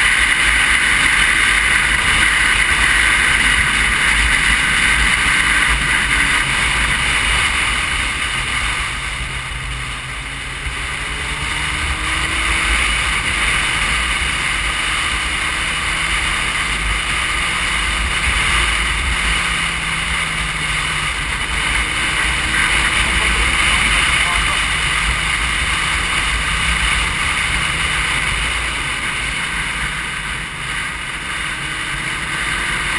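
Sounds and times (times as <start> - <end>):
motorcycle engine: 0.0 - 32.9.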